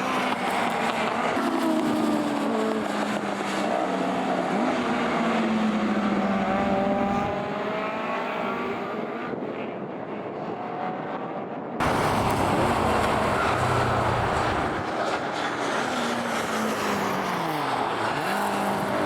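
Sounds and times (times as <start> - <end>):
racing cars passing at high revs: 0.0 - 19.0.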